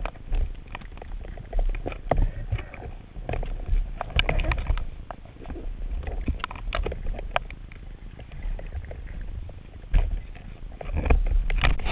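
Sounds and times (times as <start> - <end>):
short clicks and crackles: 0.0 - 11.9
underwater rumble: 0.0 - 11.9.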